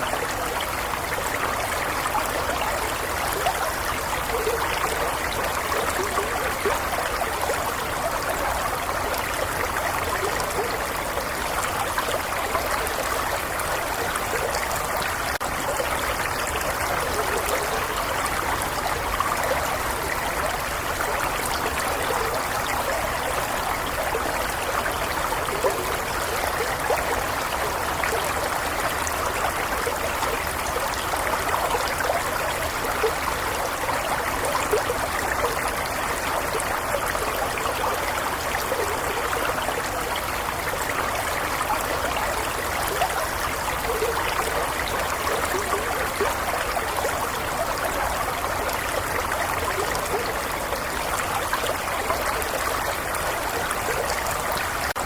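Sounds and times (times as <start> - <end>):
stream gurgling over stones: 0.0 - 55.0.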